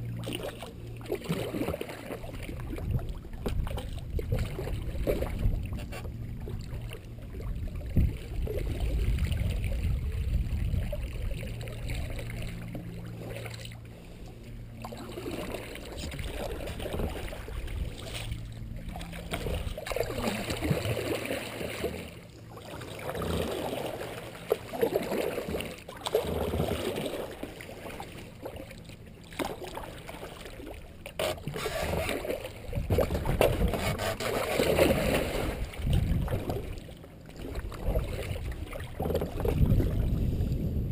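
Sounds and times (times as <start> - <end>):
kayak paddle splashing in water: 0.1 - 13.8, 14.7 - 40.1.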